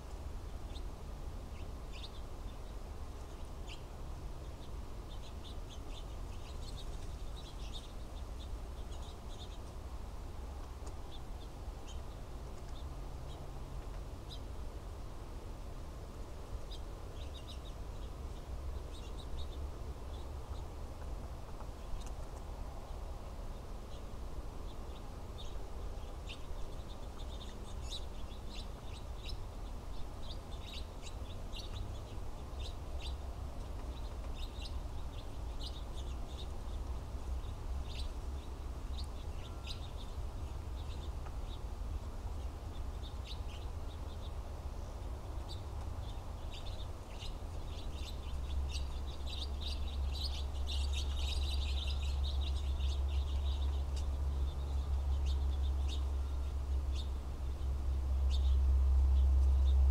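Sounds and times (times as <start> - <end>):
songbirds chirping: 0.0 - 59.9
steady low rumble: 0.0 - 59.9.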